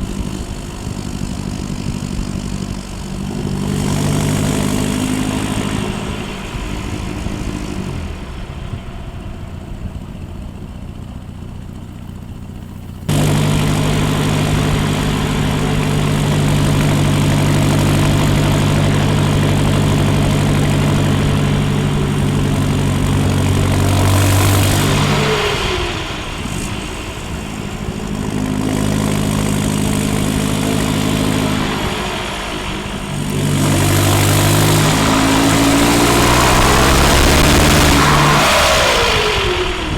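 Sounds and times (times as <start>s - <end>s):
diesel engine exhaust drone: 0.0s - 39.9s.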